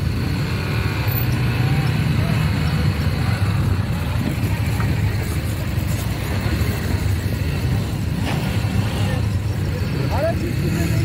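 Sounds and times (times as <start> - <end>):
quad bike engines droning: 0.0 - 11.0.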